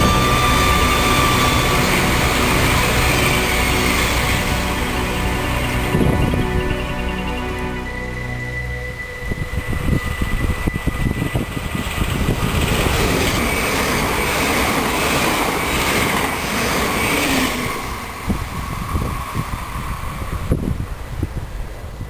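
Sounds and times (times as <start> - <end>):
train wheels rumbling on rails: 0.0 - 6.8, 9.2 - 22.0.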